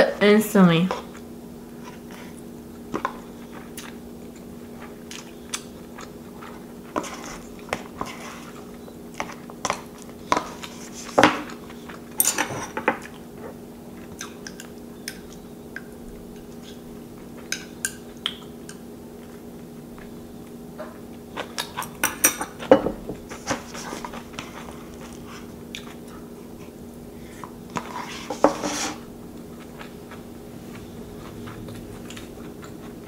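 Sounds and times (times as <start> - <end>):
faint hum: 0.0 - 33.0
soft chewing: 0.9 - 22.7, 23.3 - 28.4, 29.3 - 33.0.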